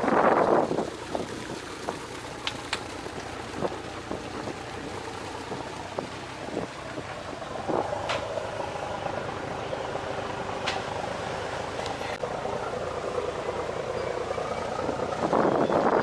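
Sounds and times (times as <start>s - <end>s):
ferry engine and water drone: 0.0s - 16.0s.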